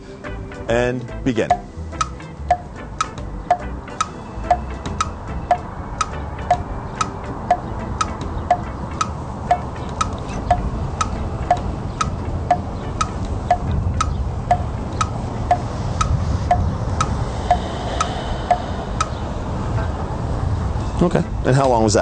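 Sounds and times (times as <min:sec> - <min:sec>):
low wind rumble: 0:00.0 - 0:22.0
clock ticking: 0:01.0 - 0:19.2.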